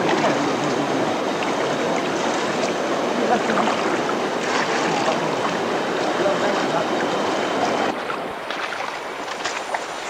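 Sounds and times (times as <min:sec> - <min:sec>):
stream water over rocks: 0:00.0 - 0:10.0.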